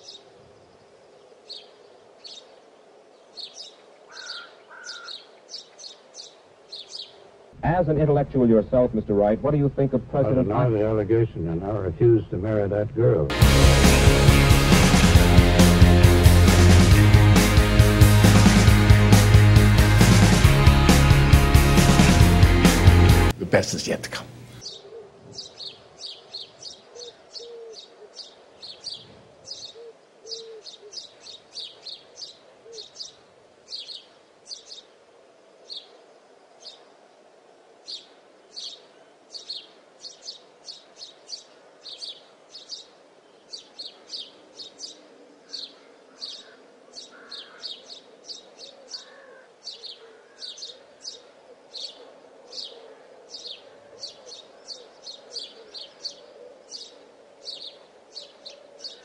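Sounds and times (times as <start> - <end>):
birds chirping: 3.2 - 34.9, 37.8 - 59.0.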